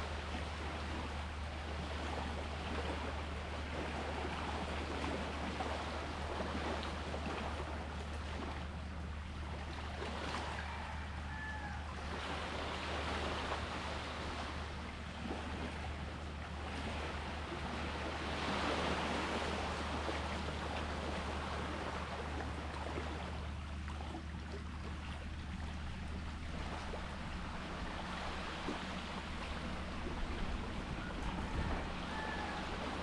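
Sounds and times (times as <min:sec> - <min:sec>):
sea water lapping at shore: 0:00.0 - 0:33.0.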